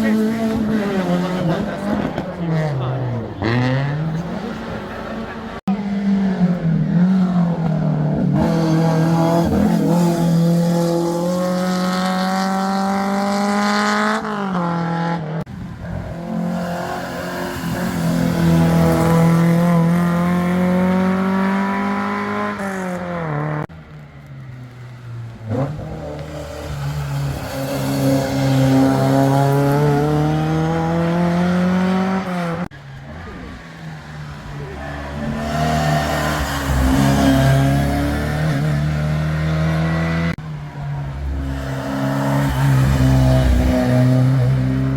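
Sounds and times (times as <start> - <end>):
rally car engines accelerating: 0.0 - 44.9.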